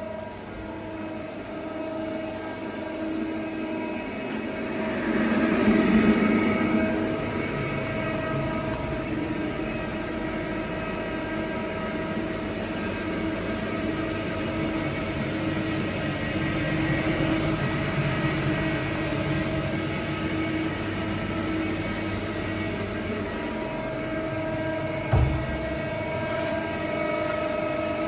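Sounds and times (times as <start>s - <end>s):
lathe humming and whining: 0.0s - 28.0s.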